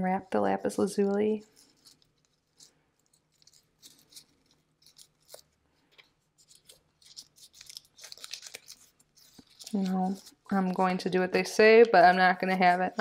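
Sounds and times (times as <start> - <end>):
paper crinkling: 0.0 - 13.0.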